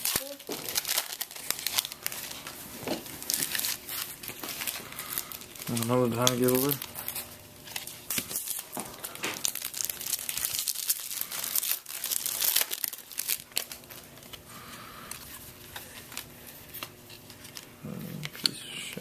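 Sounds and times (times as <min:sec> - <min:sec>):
foil wrappers crinkling and tearing: 0:00.0 - 0:14.4, 0:15.1 - 0:19.0.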